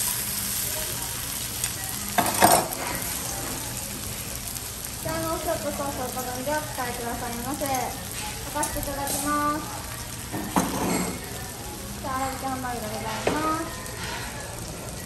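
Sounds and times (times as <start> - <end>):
food sizzling on skillet: 0.0 - 15.0.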